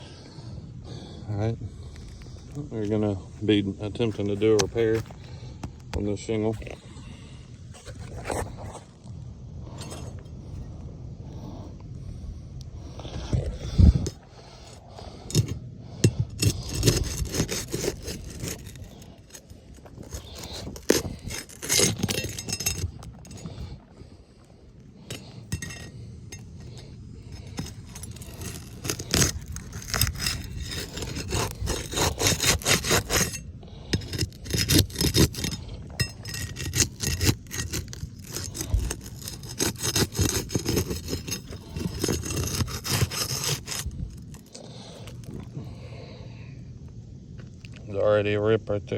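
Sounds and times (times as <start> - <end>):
scraping and rubbing on shingle: 0.0 - 12.2, 12.8 - 46.2.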